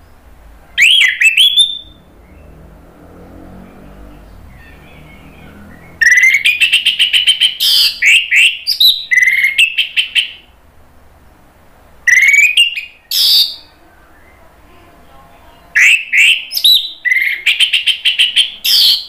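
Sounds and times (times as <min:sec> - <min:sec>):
thrush singing whistled notes: 0:00.8 - 0:10.5, 0:12.0 - 0:14.6, 0:15.6 - 0:19.0.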